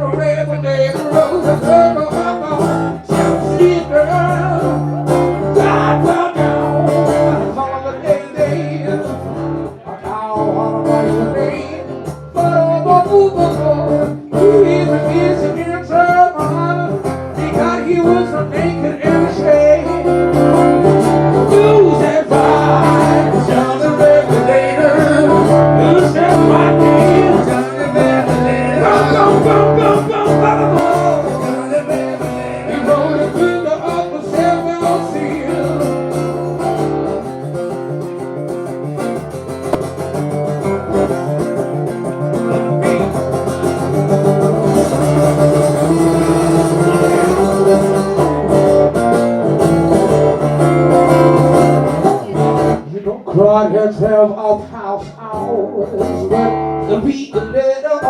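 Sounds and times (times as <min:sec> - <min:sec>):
blues guitar playing: 0:00.0 - 0:58.0.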